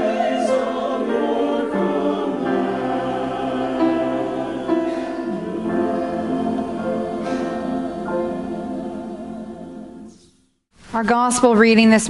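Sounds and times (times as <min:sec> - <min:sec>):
choir singing sustained chords: 0:00.0 - 0:10.4.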